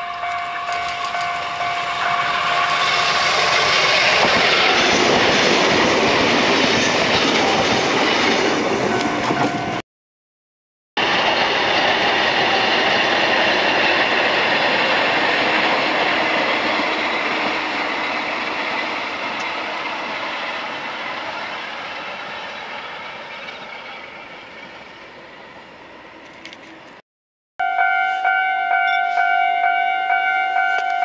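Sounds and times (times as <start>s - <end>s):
train wheels rumbling on rail: 0.0s - 9.8s, 11.0s - 27.0s.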